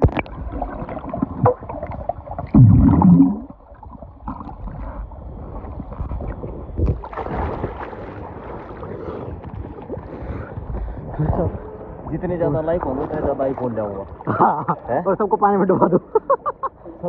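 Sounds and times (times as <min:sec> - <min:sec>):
dull churning of water: 0:00.0 - 0:15.1
muffled underwater bubbling rush: 0:00.0 - 0:16.2.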